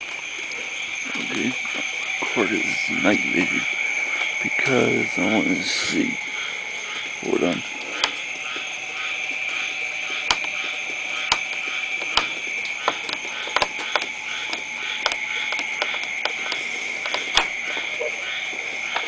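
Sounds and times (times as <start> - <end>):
insects and frogs calling: 0.0 - 19.0
raindrops ticking near microphone: 0.0 - 19.0.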